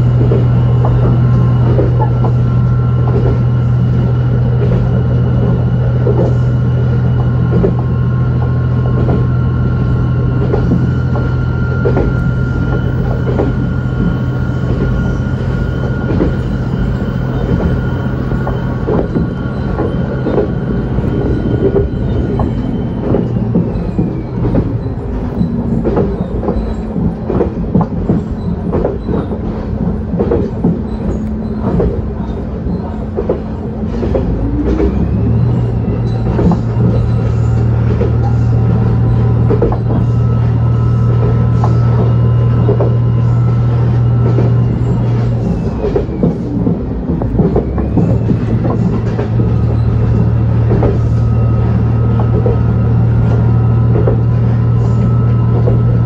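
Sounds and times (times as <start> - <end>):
diesel engine drone: 0.0 - 56.0
wheels clicking over rail joints: 0.0 - 56.0.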